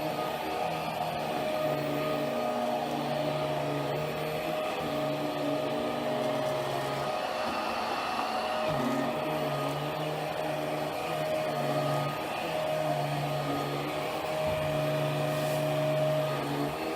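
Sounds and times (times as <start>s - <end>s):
carpet cleaner motor whine: 0.0s - 16.9s.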